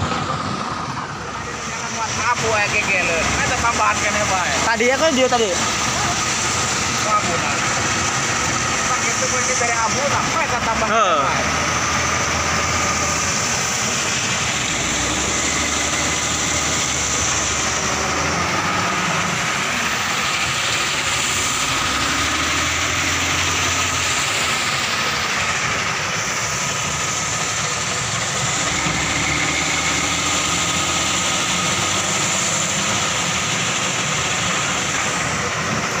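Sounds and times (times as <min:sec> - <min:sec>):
heavy machinery rumble: 0:00.0 - 0:36.0.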